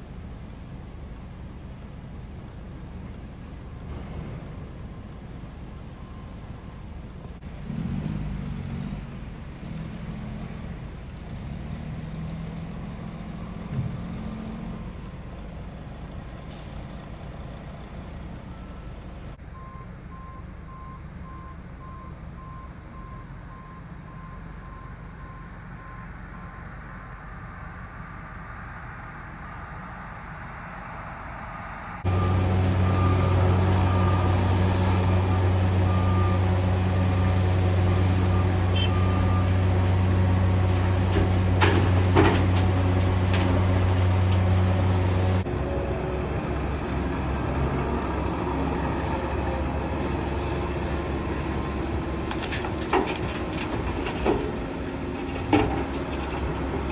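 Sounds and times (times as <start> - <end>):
diesel engine hum: 0.0 - 56.9
excavator and truck engines droning: 0.0 - 56.9.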